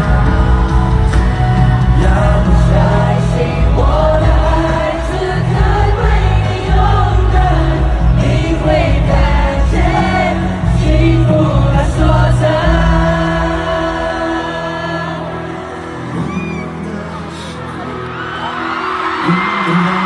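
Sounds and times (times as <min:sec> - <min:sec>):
live band playing pop ballad: 0:00.0 - 0:20.0
voices singing together: 0:00.0 - 0:20.0.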